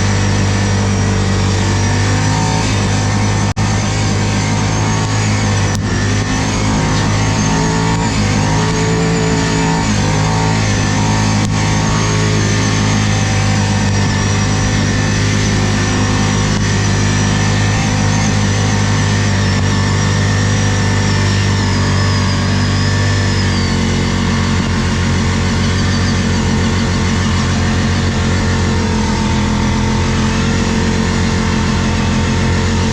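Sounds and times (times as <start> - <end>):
atv engine running: 0.0 - 32.9
thin high whine: 0.0 - 32.9.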